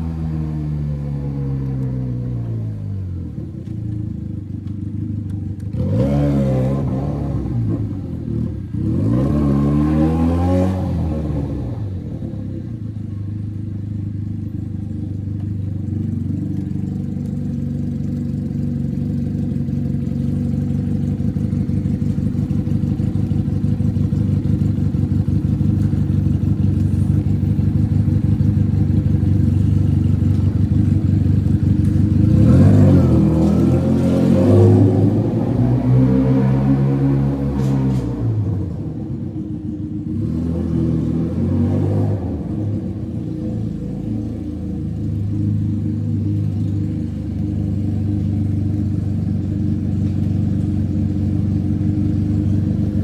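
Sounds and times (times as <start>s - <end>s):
motorcycle engine with straight-pipe exhaust: 0.0s - 53.0s.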